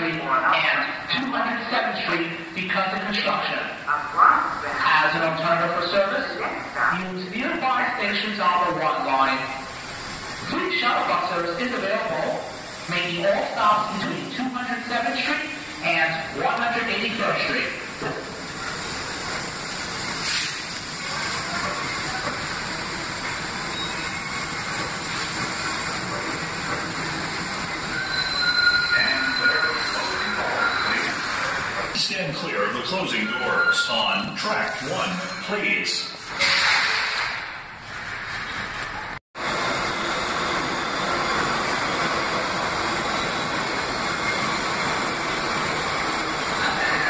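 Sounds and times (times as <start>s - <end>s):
subway train rumbling on rails: 0.0s - 33.8s, 36.0s - 47.0s.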